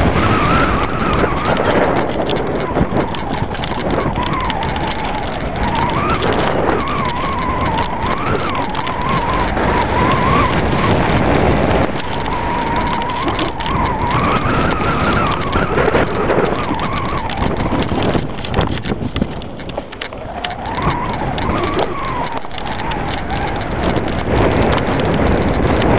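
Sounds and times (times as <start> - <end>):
bike tyres rattling over ground: 0.0 - 25.9
small clicks: 0.0 - 25.9
wavering whine: 0.0 - 25.9.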